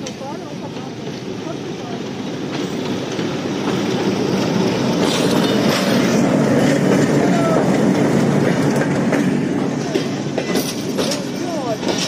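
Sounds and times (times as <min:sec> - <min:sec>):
train wheels rumbling on rail: 0:00.0 - 0:12.0
wheels clicking over rail joints: 0:00.0 - 0:12.0.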